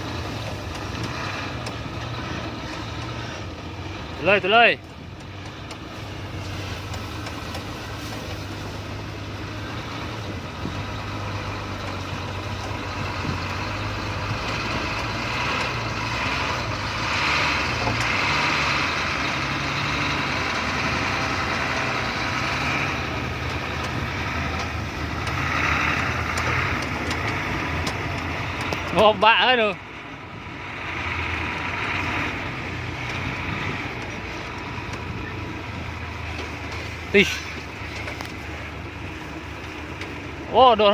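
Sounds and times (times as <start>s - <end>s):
rough higher engine noise: 0.0s - 40.9s
truck diesel engine droning: 0.0s - 40.9s.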